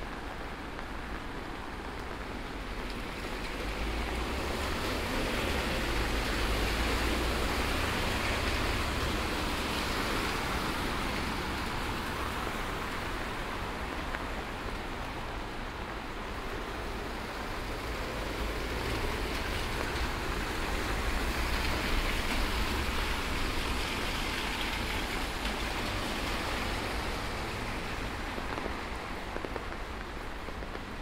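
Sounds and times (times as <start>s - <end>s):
steady rain: 0.0s - 31.0s
tyres hissing on wet street: 0.0s - 31.0s.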